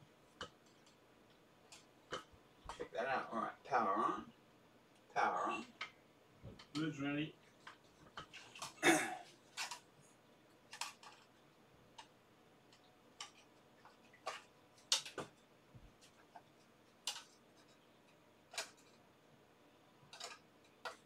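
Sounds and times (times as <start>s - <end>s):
plastic meters clicking and knocking: 0.3s - 3.0s, 5.7s - 19.0s, 20.0s - 21.0s.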